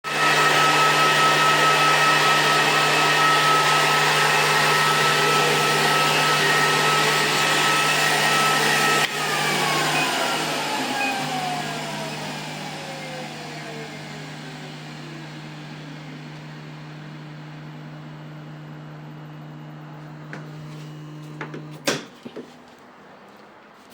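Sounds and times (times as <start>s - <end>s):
fan spinning down: 0.1s - 21.9s
cooling fan whining: 0.1s - 23.9s.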